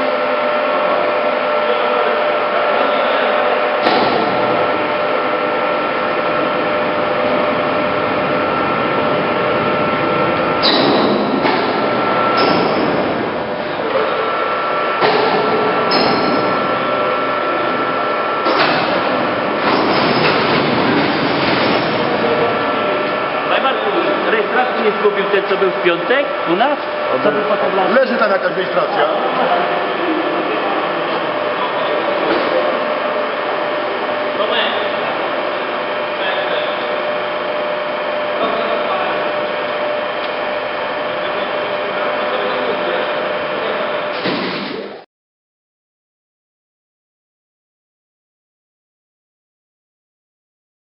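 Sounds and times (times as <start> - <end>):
lathe running: 0.0 - 44.7.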